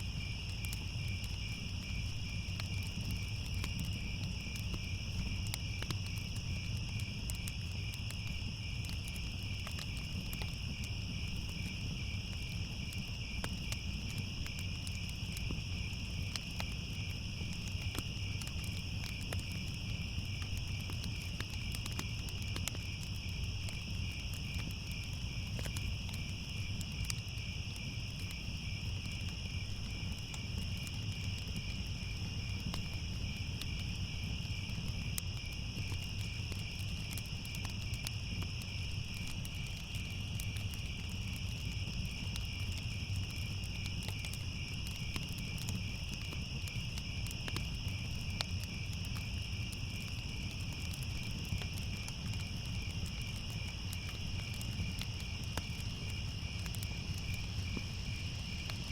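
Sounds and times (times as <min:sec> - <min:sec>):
crickets chirring: 0:00.0 - 0:58.9
wood fire crackling: 0:00.0 - 0:58.9.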